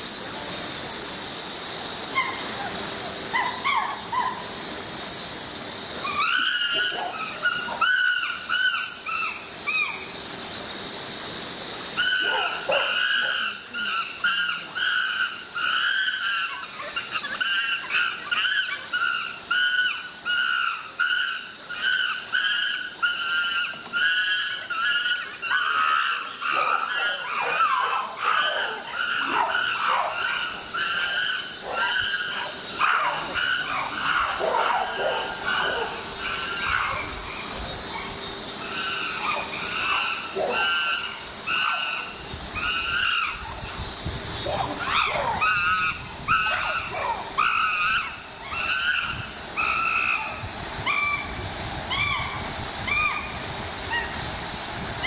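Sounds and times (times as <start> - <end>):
steady high hiss: 0.0 - 55.0
chimpanzee high calls: 2.1 - 4.5, 5.9 - 10.2, 11.9 - 43.8, 44.4 - 54.3.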